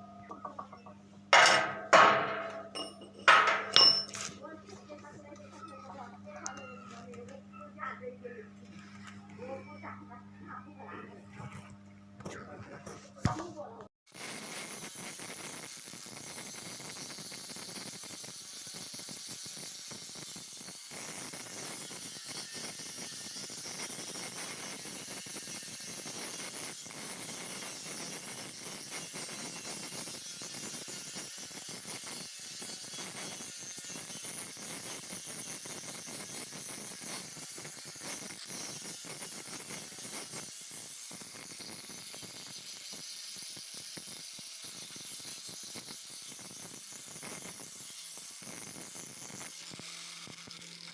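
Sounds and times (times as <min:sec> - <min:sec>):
welding arc crackling hiss: 0:01.4 - 0:07.3, 0:14.1 - 0:50.9.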